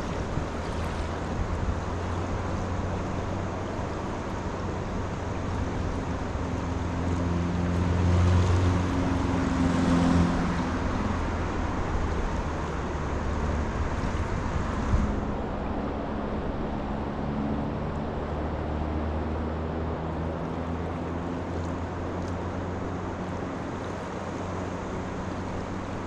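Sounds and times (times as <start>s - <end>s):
moving water: 0.0s - 26.0s
passing engine hum: 0.0s - 26.0s
wind: 0.0s - 26.0s.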